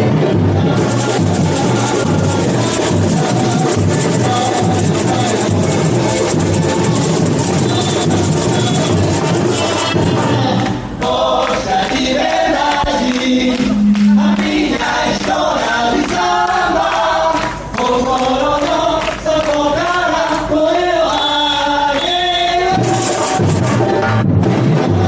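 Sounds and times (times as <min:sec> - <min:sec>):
chorus of voices singing: 0:00.0 - 0:25.0
samba percussion drums: 0:00.0 - 0:25.0.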